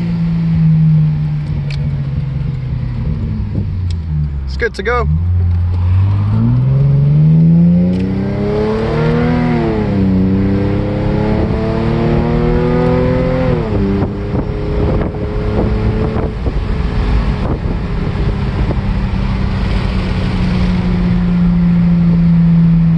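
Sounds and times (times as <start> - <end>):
car engine accelerating: 0.0 - 22.9.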